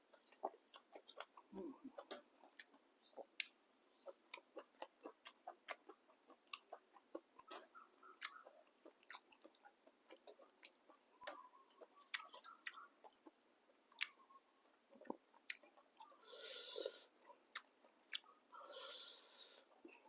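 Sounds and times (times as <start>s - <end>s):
soft chewing with small clicks: 0.0s - 20.0s.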